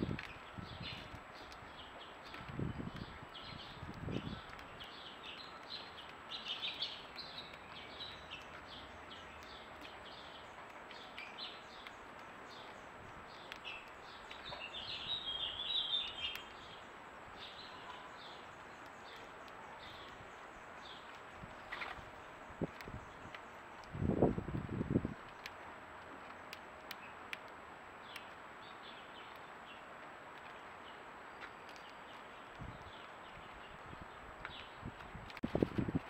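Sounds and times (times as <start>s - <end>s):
faint steady hiss: 0.0s - 36.0s
songbirds chirping: 0.0s - 36.0s.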